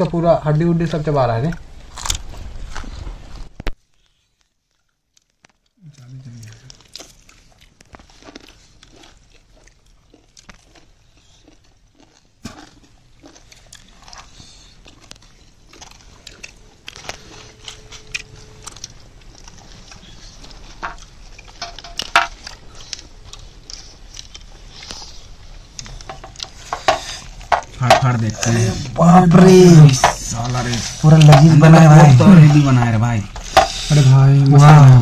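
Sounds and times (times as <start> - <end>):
chewing and biting roasted chicken: 1.9 - 3.4, 4.7 - 35.0.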